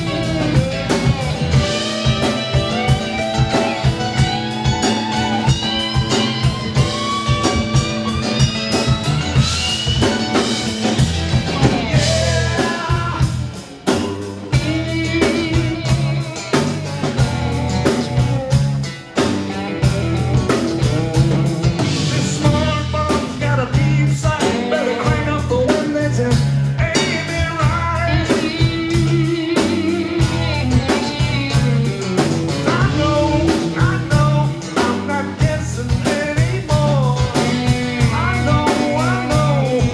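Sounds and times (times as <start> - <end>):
blues guitar with bent notes: 0.0 - 39.9
drum kit: 0.0 - 39.9.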